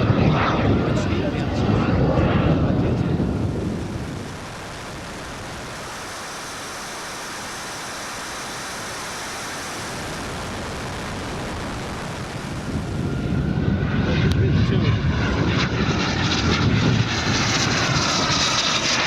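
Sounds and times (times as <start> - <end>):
distant jet turbine rush and whine: 0.0 - 19.0.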